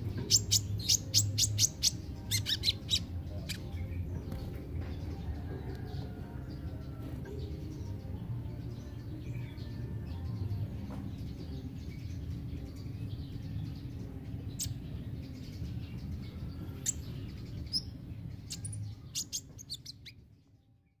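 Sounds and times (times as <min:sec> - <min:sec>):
low background rumble: 0:00.0 - 0:20.9
bird chirping: 0:00.0 - 0:21.0.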